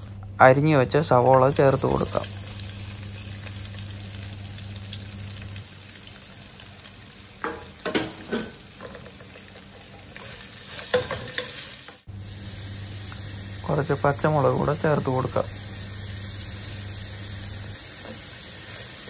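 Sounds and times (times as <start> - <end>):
onions sizzling in pan: 0.0 - 19.0.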